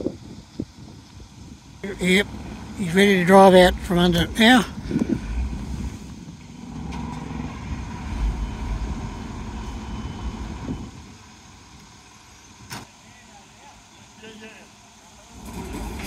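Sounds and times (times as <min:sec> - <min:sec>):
heavy diesel engine rumbling: 0:01.2 - 0:16.0.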